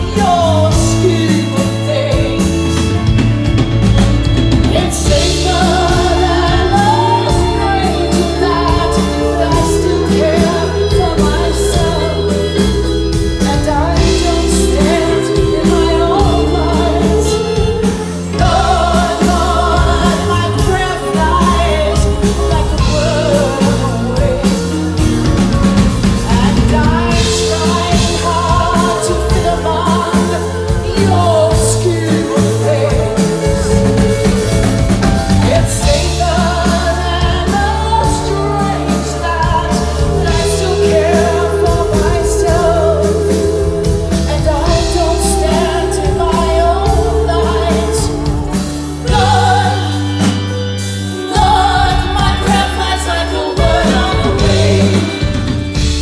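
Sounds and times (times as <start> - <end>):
live band playing slow rock: 0.0 - 56.0
person singing: 0.0 - 56.0.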